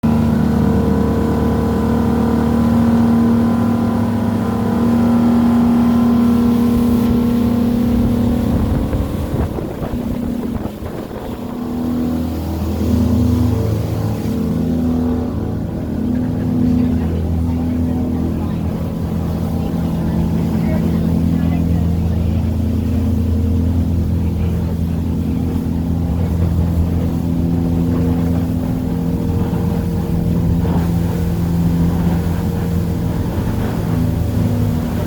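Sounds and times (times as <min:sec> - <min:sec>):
motorboat engine running: 0:00.0 - 0:35.0.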